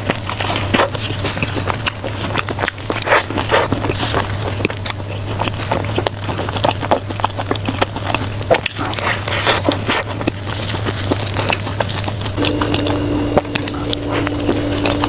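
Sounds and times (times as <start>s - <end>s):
low electrical hum: 0.0s - 15.0s
person chewing: 0.0s - 15.0s.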